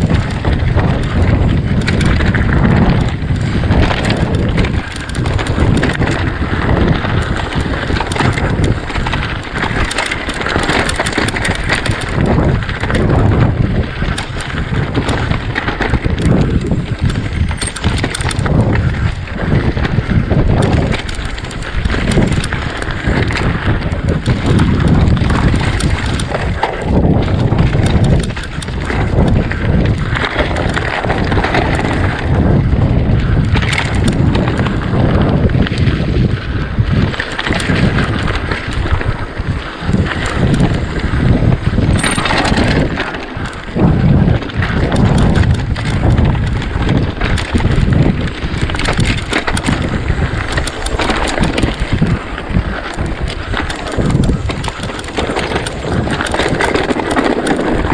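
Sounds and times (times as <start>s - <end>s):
bike rattling and knocking: 0.0s - 57.9s
tyres rumbling over stony ground: 0.0s - 57.9s
wind rushing over microphone: 0.0s - 57.9s.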